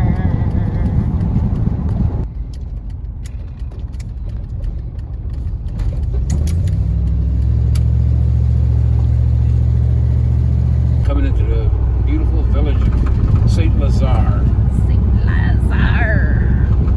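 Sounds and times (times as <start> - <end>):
car engine and road noise: 0.0 - 16.9.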